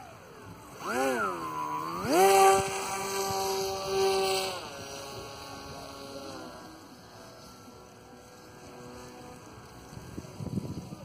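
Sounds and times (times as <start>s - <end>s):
model aircraft motor and propeller: 0.0s - 11.0s.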